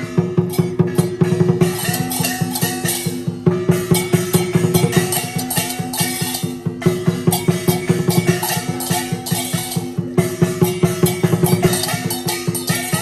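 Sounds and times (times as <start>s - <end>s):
cymbals clashing: 0.0s - 13.0s
drum beaten fast: 0.0s - 13.0s
gong ringing: 0.0s - 13.0s.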